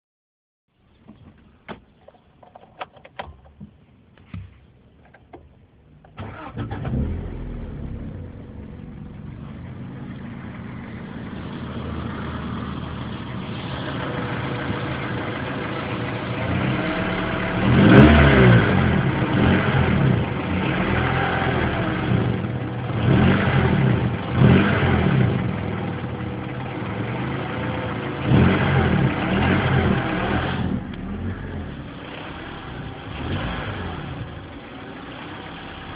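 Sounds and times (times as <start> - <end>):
car engine starting and revving: 6.1 - 35.9.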